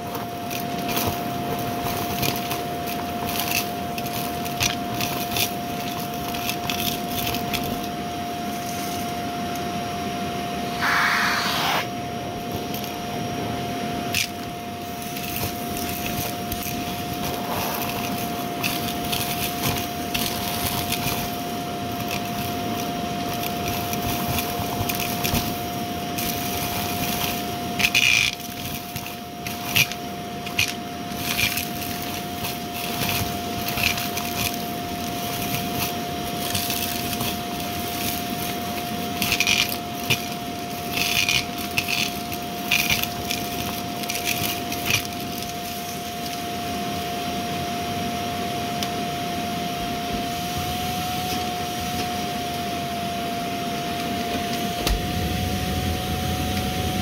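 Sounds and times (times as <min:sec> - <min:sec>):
vacuum cleaner motor whine: 0:00.0 - 0:57.0.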